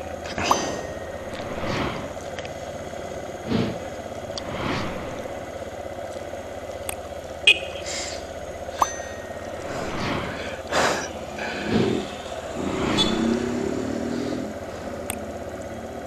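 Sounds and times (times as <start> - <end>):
motorcycle engine idling: 0.0 - 16.0
vehicles passing: 0.0 - 16.0.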